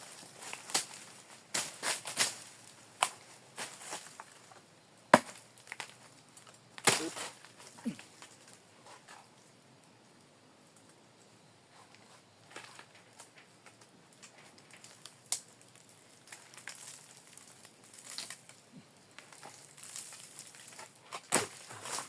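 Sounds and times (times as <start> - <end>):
rustling leaves and twigs: 0.0 - 22.0.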